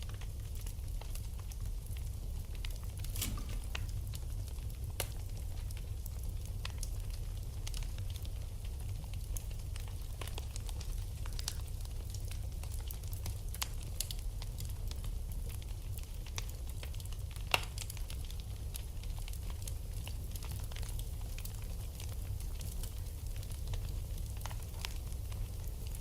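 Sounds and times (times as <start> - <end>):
low fire rumble: 0.0 - 26.0
wood fire crackling: 0.0 - 26.0
fire pops: 2.4 - 14.2, 14.9 - 26.0.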